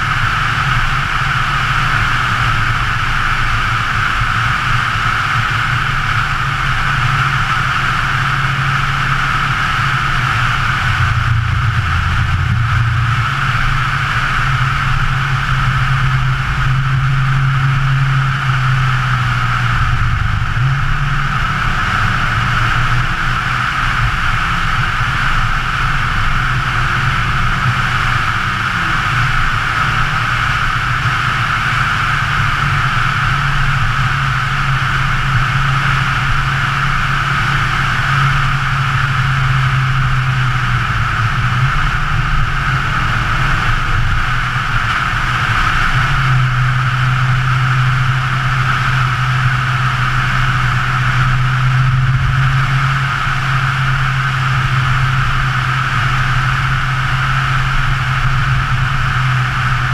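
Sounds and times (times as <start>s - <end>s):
car engine running: 0.0s - 59.9s
wind and tyre noise: 0.0s - 59.9s.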